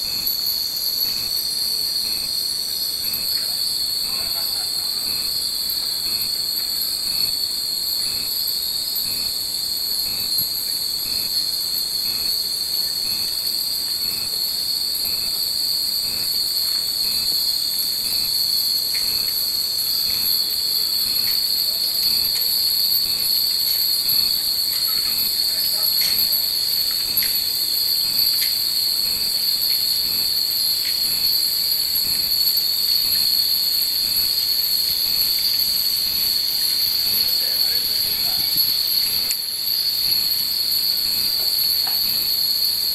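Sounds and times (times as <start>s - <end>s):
cicadas droning: 0.0s - 42.9s.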